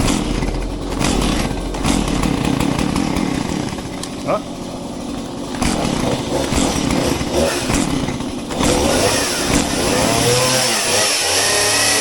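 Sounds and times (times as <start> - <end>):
chainsaw engine revving and idling: 0.0 - 12.0.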